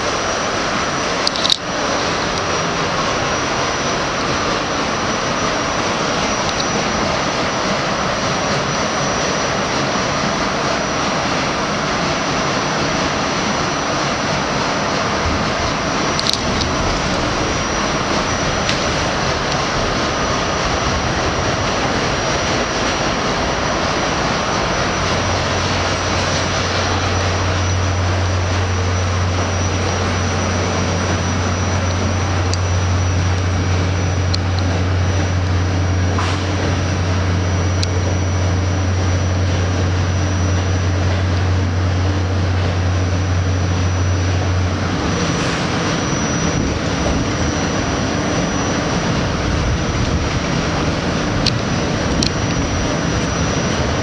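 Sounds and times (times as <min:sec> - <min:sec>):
deep steady hum: 0:00.0 - 0:54.0
subway train running noise: 0:00.0 - 0:54.0.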